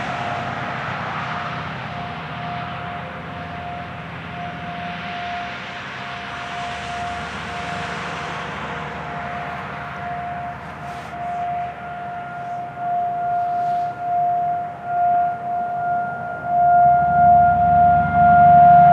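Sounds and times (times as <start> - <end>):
steady rushing noise: 0.0 - 18.9
tornado siren alert tone: 0.0 - 18.9.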